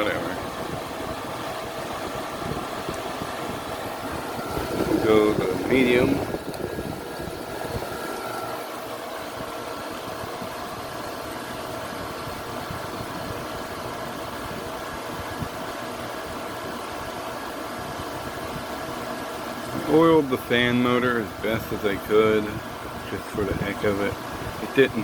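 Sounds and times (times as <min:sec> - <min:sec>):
air conditioner fan blowing: 0:00.0 - 0:25.0
compressor humming: 0:00.0 - 0:25.0.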